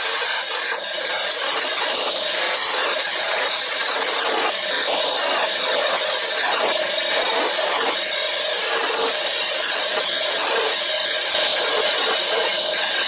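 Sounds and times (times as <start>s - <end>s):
chisel scraping spinning wood: 0.0s - 13.0s
wood lathe running: 0.0s - 13.0s.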